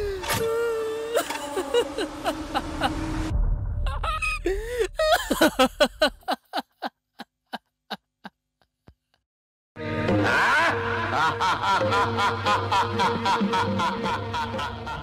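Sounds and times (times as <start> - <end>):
man cackling laughter: 1.1 - 9.2, 10.2 - 15.0.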